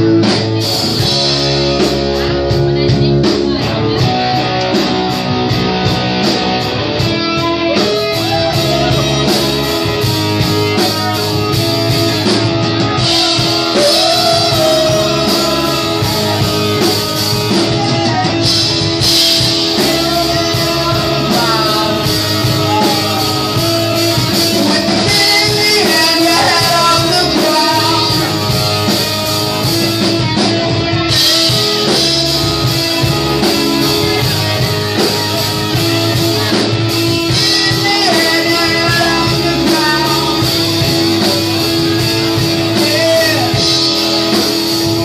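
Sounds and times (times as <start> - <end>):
electric guitars: 0.0 - 45.0
live rock band playing: 0.0 - 45.0
person singing: 7.0 - 45.0.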